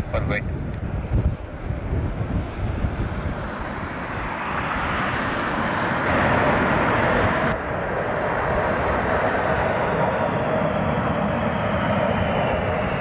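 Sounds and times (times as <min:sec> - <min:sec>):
jet airliner engine noise: 0:00.0 - 0:13.0
jet engine rush with whine: 0:00.0 - 0:13.0.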